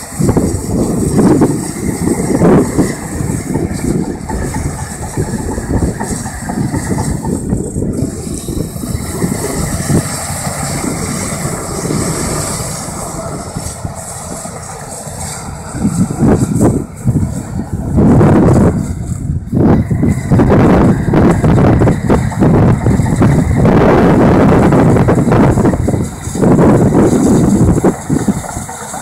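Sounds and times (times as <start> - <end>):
diesel engine running: 0.0 - 29.0
steel tracks working: 0.0 - 29.0.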